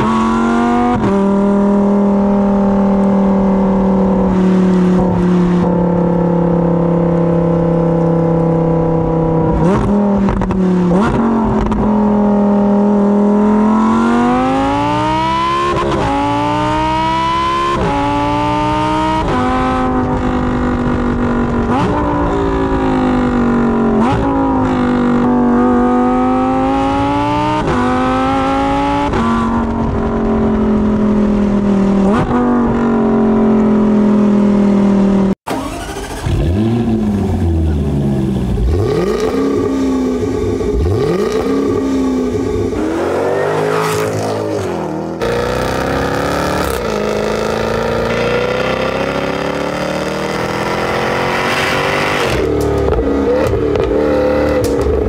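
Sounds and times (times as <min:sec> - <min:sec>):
sports car exhaust accelerating: 0:00.0 - 0:35.4, 0:36.3 - 0:43.4, 0:44.0 - 0:55.0.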